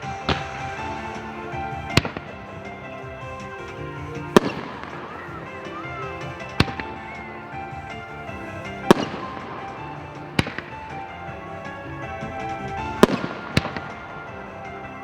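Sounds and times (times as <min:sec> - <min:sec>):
background music: 0:00.0 - 0:15.0
fireworks bangs: 0:00.0 - 0:15.0.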